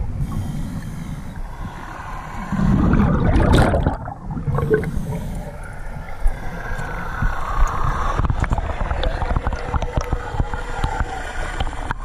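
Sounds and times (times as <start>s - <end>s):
underwater bubbles gurgling: 0.0s - 12.0s.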